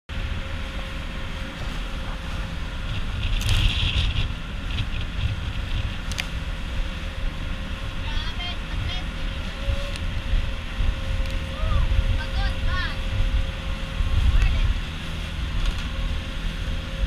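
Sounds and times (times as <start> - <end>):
boat engine running: 0.1 - 17.0
wind buffeting microphone: 0.1 - 17.0.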